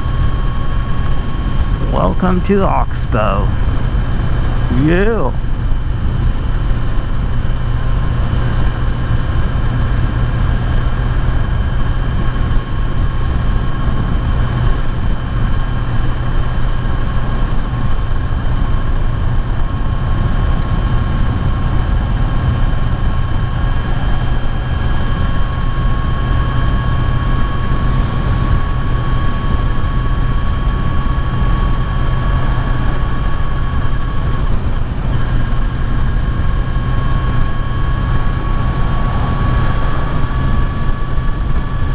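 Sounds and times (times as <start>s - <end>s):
motorcycle engine cruising: 5.4s - 41.9s.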